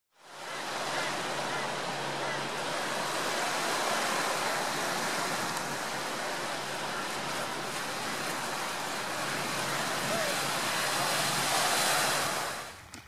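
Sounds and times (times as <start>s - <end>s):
waves washing against rocks: 0.4s - 12.8s.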